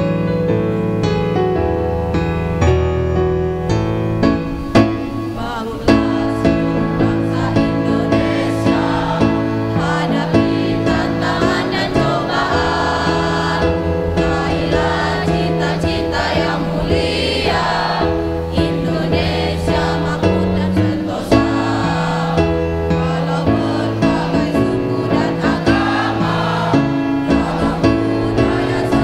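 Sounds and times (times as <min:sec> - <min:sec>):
electronic keyboard: 0:00.0 - 0:29.0
mixed choir singing: 0:05.0 - 0:29.0.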